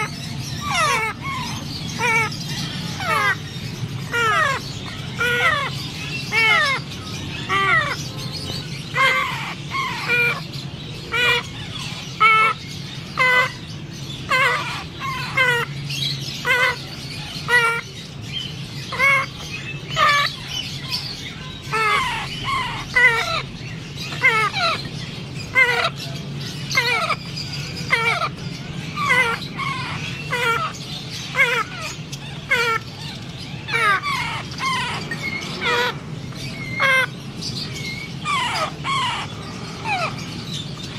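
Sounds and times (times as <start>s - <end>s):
parrot chicks begging calls: 0.0s - 40.9s.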